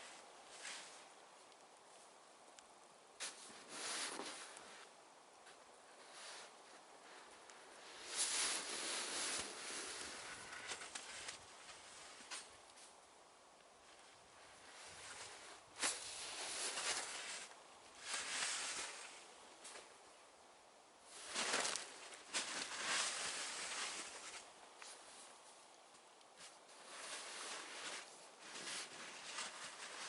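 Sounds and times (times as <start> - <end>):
shovel crunching and scraping snow: 0.0 - 1.1, 3.2 - 13.0, 13.9 - 19.9, 21.1 - 25.5, 26.4 - 30.0.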